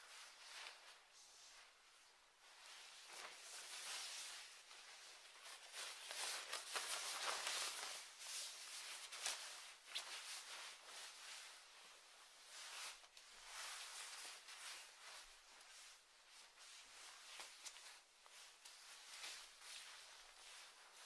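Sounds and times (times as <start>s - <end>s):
faint uneven rustling: 0.0s - 21.0s.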